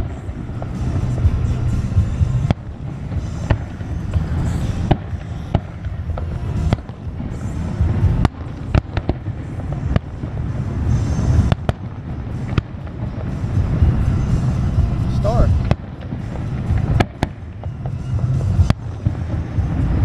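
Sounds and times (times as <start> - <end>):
firework shells bursting: 0.0 - 20.0.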